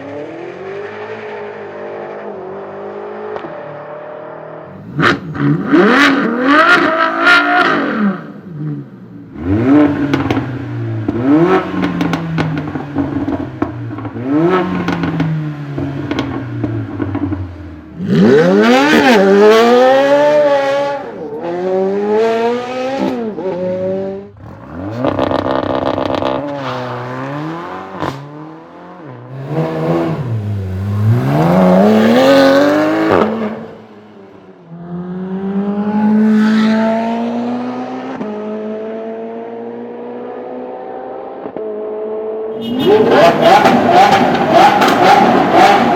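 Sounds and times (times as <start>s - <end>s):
supercar engines revving: 0.0s - 45.9s.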